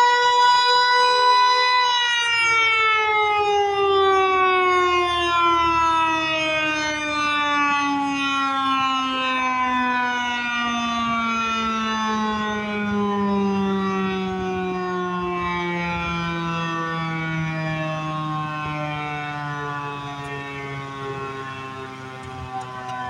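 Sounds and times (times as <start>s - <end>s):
warning siren winding down: 0.0s - 23.0s.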